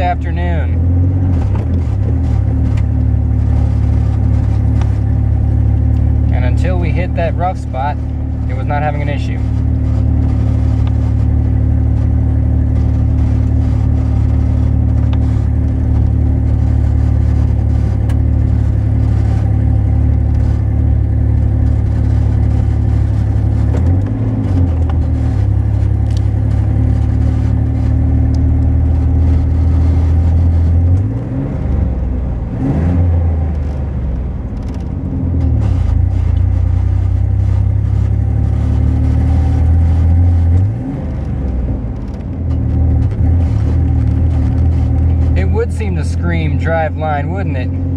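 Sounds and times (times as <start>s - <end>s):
pickup truck engine droning: 0.0s - 47.9s.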